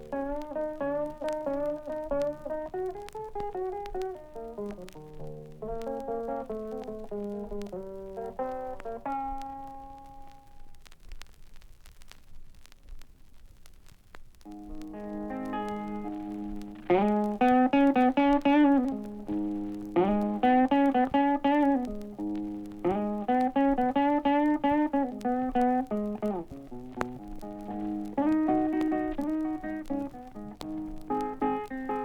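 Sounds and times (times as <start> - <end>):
solo blues guitar: 0.0 - 10.8, 14.4 - 32.0
vinyl record surface clicks: 0.0 - 32.0.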